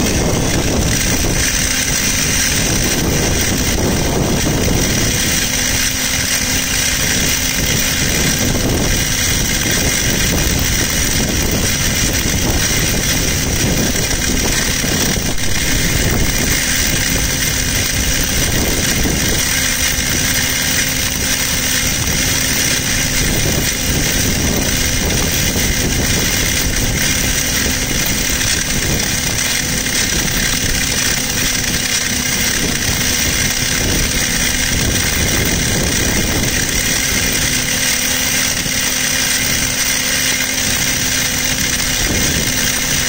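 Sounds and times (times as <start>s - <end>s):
cable blowing machine running: 0.0s - 43.0s.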